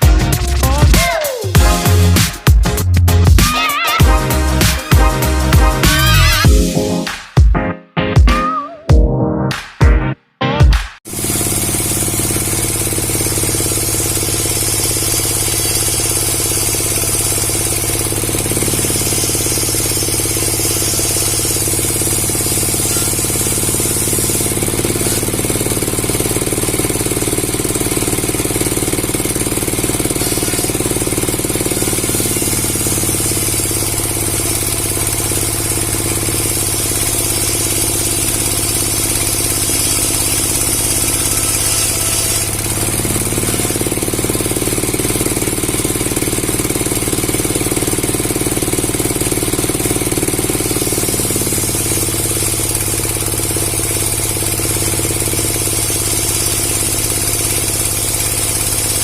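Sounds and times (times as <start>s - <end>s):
powered wood saw running: 0.0s - 6.5s, 11.1s - 59.0s.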